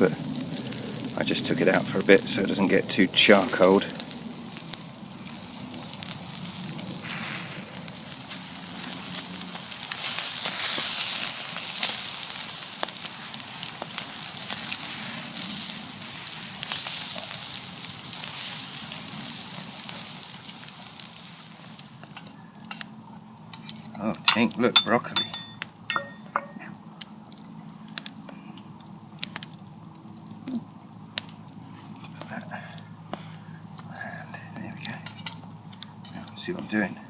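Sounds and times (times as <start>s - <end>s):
steak sizzling: 0.0s - 36.9s
campfire crackling and popping: 0.0s - 37.0s.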